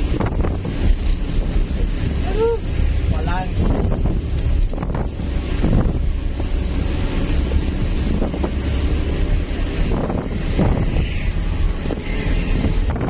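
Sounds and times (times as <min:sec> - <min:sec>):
road and wind noise: 0:00.0 - 0:13.0
truck engine low rumble: 0:00.0 - 0:13.0.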